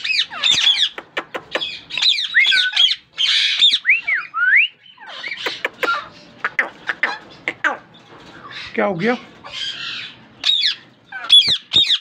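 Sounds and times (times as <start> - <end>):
parakeets calling: 0.0 - 12.0.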